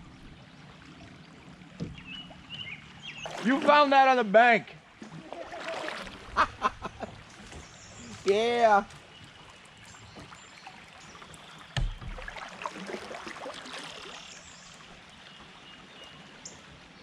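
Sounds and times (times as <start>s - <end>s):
creek water trickling: 0.0s - 17.0s
small splashes: 0.7s - 4.1s, 4.8s - 15.1s.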